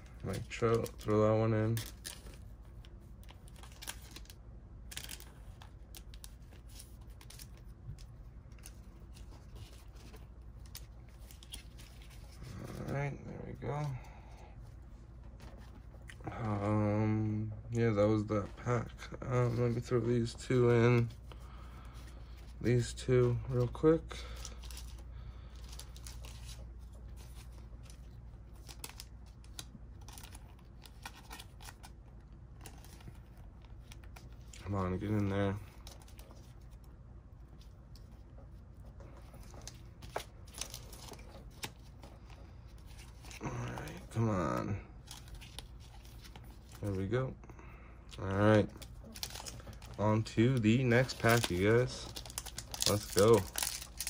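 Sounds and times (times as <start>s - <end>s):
cards and plastic sleeves rustling: 0.0s - 54.0s
low steady hum: 0.0s - 54.0s.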